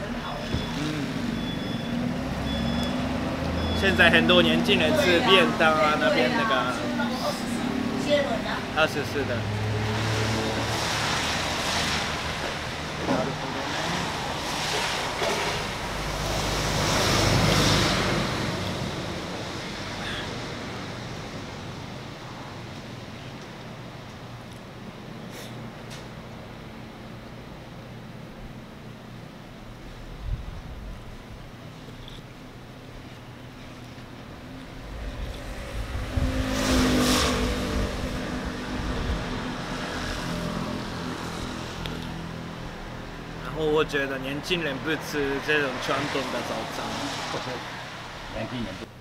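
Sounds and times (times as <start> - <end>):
rushing outdoor noise with rumble: 0.0 - 49.0.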